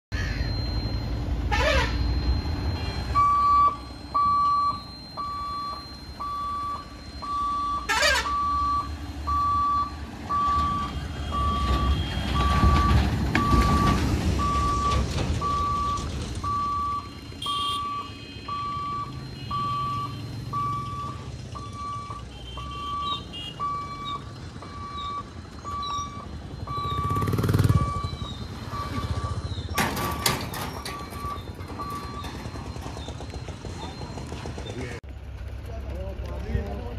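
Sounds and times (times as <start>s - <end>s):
level crossing warning beeps: 0.1s - 35.0s
road vehicles rumbling past: 0.1s - 36.9s.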